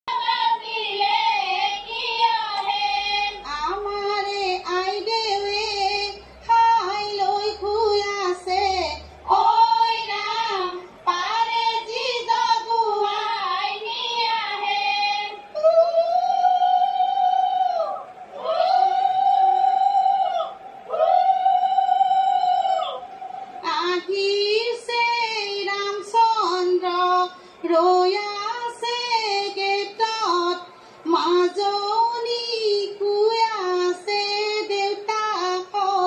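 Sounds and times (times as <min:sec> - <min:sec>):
woman singing through tv speaker: 0:00.1 - 0:36.0.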